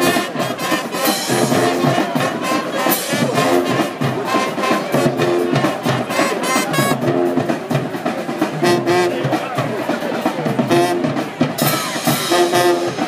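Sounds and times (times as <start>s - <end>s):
brass chords: 0.0s - 13.0s
steady drum beat: 0.0s - 13.0s.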